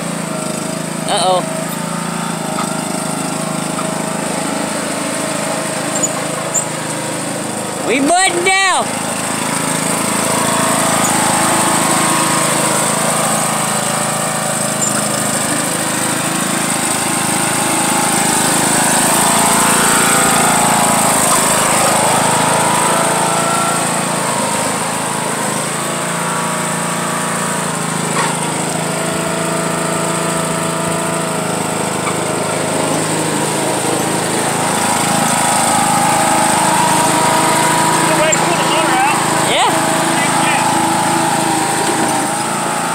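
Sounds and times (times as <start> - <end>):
riding lawn mower engine: 0.0 - 42.9.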